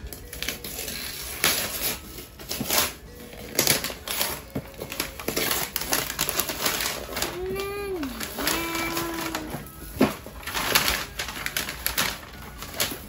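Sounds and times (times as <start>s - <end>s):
packaging rustling and tearing: 0.0s - 13.0s.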